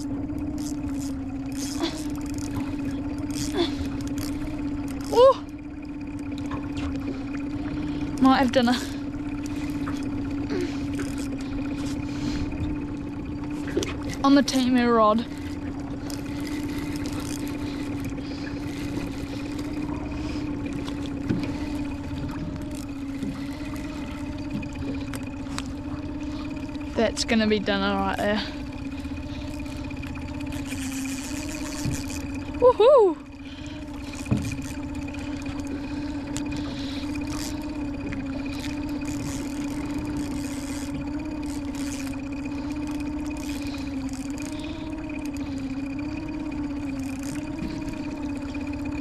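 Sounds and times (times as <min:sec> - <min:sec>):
outboard motor running steadily: 0:00.0 - 0:49.0.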